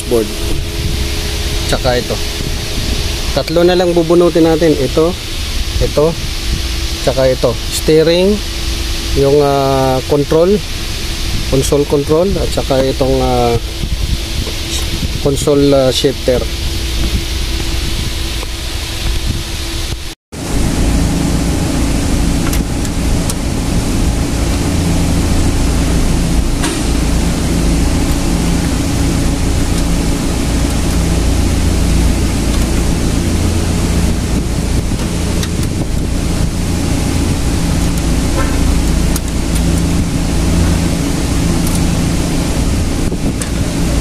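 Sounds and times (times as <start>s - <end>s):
loud rushing noise: 0.0s - 44.0s
low hum: 0.0s - 44.0s.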